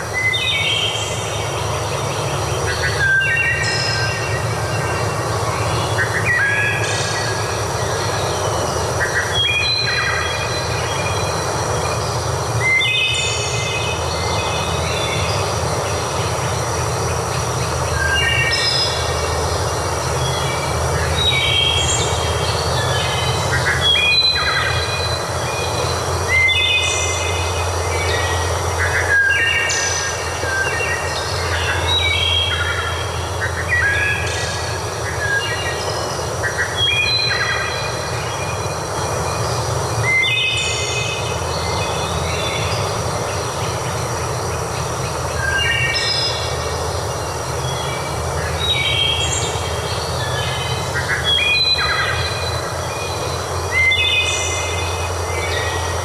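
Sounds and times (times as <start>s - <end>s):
birds singing whistled notes: 0.0s - 56.0s.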